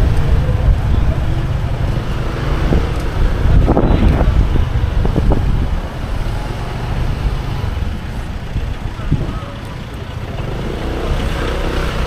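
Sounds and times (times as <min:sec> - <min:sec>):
motorbike engine: 0:00.0 - 0:12.0
passing traffic: 0:00.0 - 0:12.0
wind rumble on microphone: 0:00.0 - 0:12.0.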